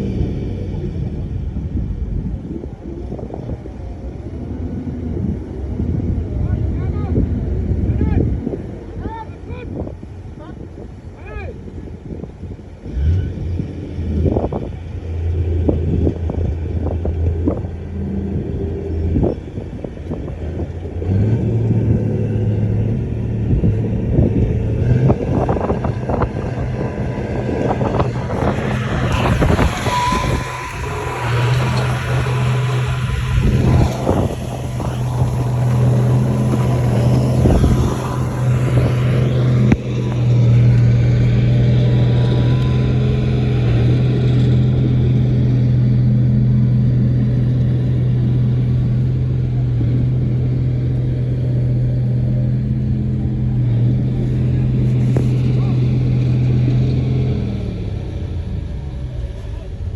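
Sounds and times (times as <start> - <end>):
bulldozer diesel engine droning: 11.7 - 59.9.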